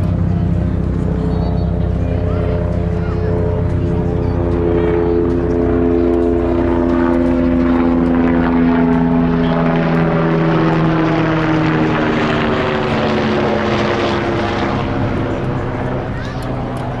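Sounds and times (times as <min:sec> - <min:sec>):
aircraft engine drone passing overhead: 0:00.0 - 0:17.0.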